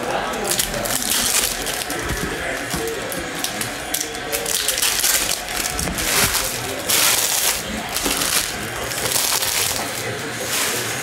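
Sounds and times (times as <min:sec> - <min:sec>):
cards and foil packs rustling: 0:00.0 - 0:11.0.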